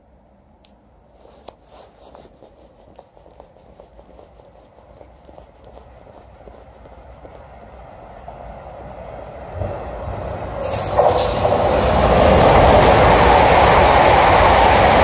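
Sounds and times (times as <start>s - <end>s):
train rail rumble: 1.2s - 15.0s.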